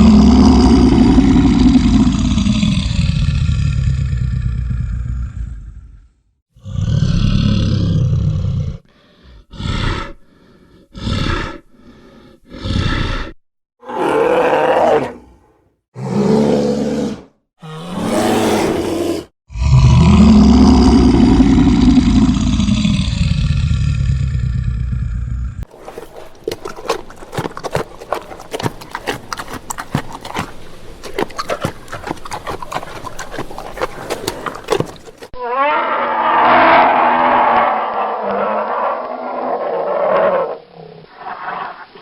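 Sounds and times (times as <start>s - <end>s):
bear roaring: 0.0s - 6.0s, 6.6s - 41.7s.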